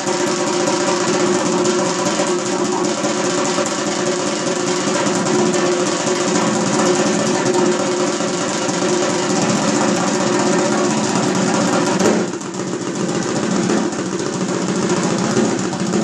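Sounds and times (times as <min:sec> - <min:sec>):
hand drum played with fingers: 0:00.1 - 0:16.0.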